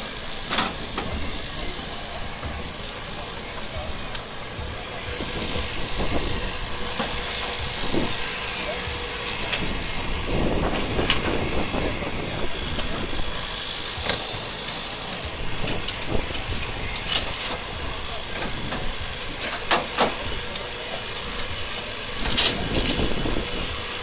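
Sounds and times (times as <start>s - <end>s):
hydraulic power unit running: 0.0s - 24.0s.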